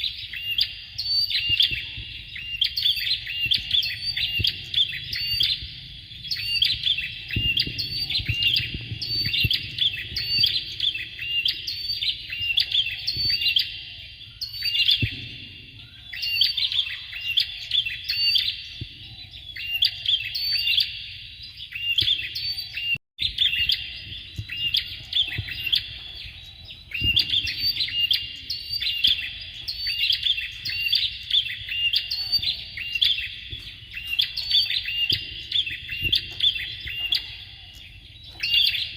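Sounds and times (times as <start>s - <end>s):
bird calling with high chirps: 0.0s - 38.9s.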